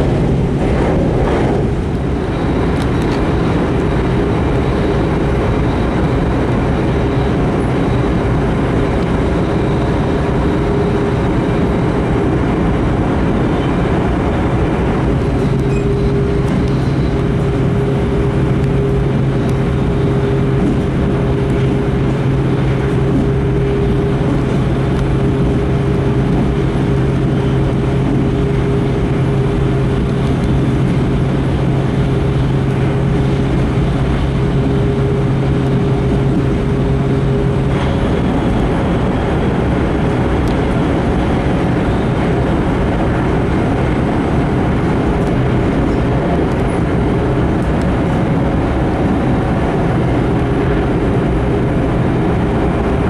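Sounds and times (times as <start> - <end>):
steady low hum: 0.0 - 53.0
train carriage running rumble: 0.0 - 53.0.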